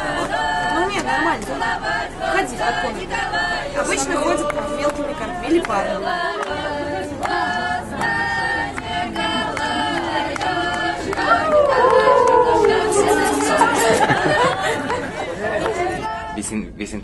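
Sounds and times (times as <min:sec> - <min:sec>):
group singing: 0:00.0 - 0:16.4.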